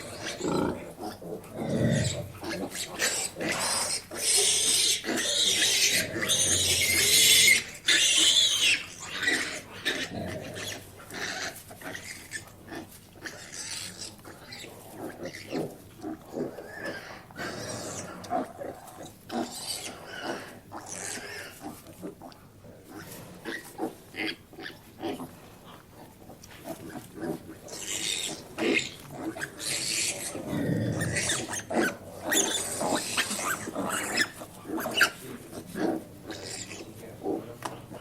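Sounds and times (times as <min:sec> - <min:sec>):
pigs grunting and squealing: 0:00.0 - 0:38.0.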